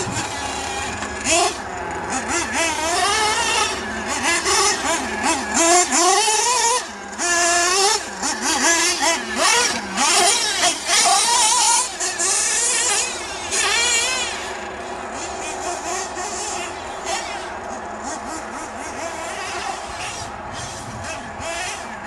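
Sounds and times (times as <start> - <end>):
rc car nitro engine revving: 0.0 - 22.0.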